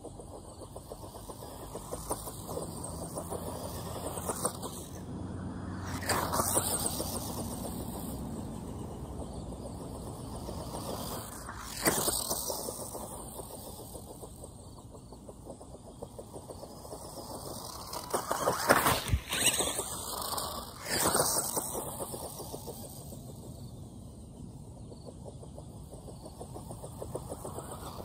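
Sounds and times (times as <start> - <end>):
toy car motor whining: 0.0 - 24.0, 25.5 - 28.0.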